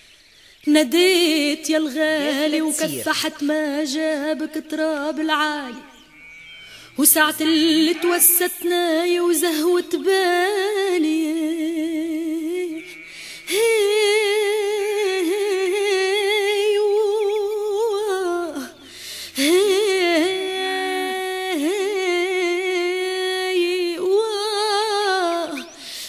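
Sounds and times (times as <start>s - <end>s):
person singing wordless melody: 0.7s - 6.0s, 6.8s - 25.9s.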